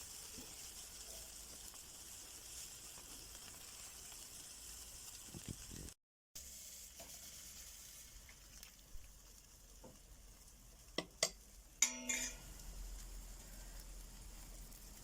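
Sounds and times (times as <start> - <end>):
food sizzling over fire: 0.0 - 15.0.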